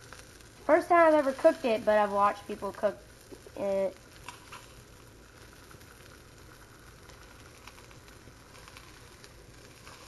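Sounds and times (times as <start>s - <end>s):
fish frying in a pan: 0.0s - 10.0s
small pops of frying oil: 0.0s - 10.0s.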